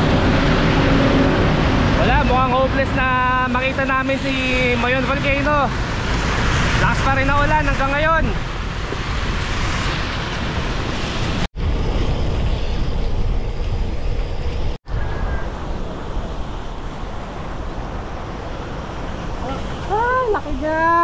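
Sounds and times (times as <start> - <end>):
wind and rain on microphone: 0.0 - 21.0.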